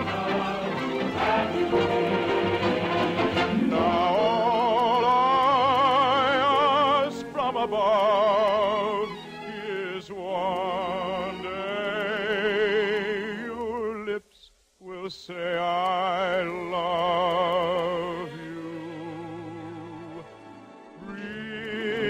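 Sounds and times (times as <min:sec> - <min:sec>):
musical accompaniment: 0:00.0 - 0:14.1, 0:15.6 - 0:22.0
operatic singing: 0:00.0 - 0:22.0.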